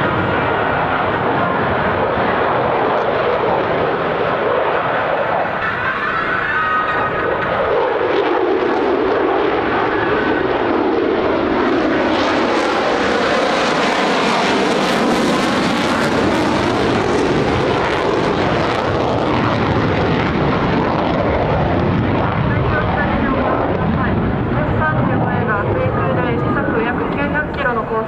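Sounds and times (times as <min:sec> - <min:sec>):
fighter jet flying past: 0:00.0 - 0:28.0.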